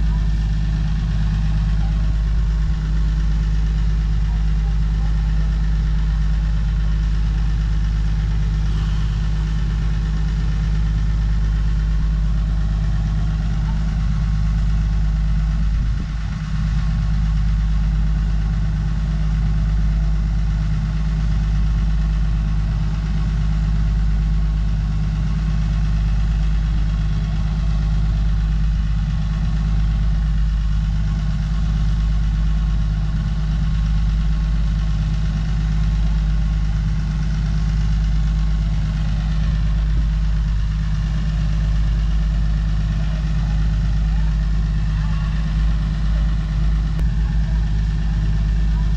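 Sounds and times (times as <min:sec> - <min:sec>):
heavy engine idling: 0:00.0 - 0:48.9.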